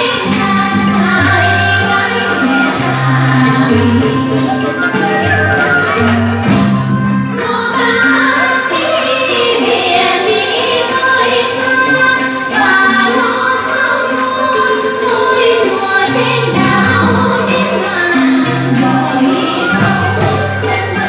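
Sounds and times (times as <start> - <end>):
instrumental backing music: 0.0 - 21.0
woman singing: 0.0 - 21.0.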